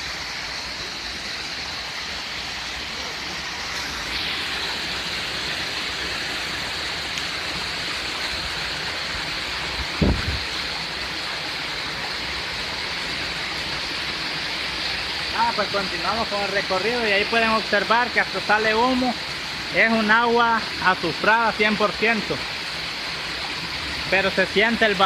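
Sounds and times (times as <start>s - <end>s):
water splashing over rocks: 0.0s - 25.0s.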